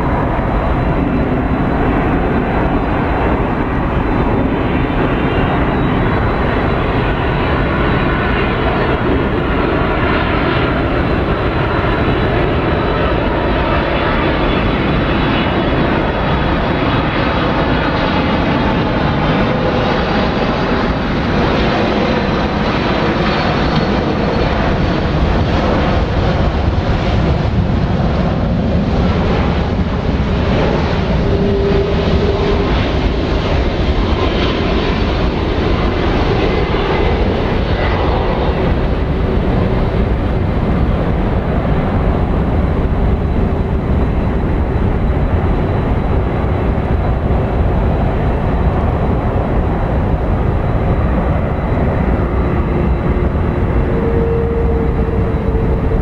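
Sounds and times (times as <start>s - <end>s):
jet airliner engines: 0.0s - 56.0s.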